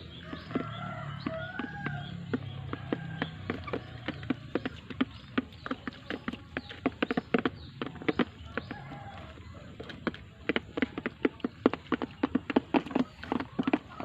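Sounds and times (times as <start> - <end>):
chickens pecking at feed: 0.0 - 14.0.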